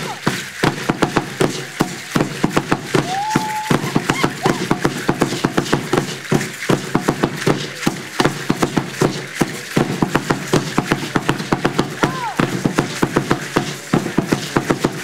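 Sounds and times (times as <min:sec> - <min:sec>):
sharp clattering percussion beats: 0:00.0 - 0:15.0.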